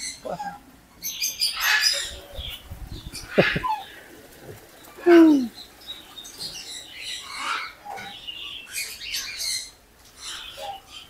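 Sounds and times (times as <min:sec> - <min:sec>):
high chirping swan calls: 0:00.0 - 0:11.0.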